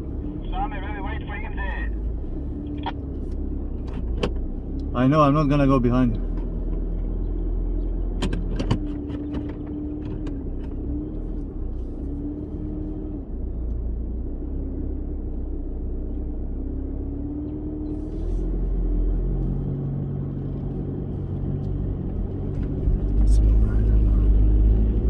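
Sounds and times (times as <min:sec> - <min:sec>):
vehicle engine driving: 0:00.0 - 0:25.0.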